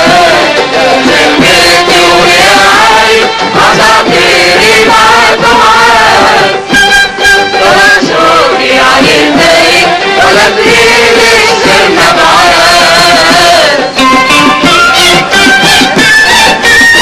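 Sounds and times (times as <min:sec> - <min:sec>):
chorus of voices singing: 0:00.0 - 0:16.1.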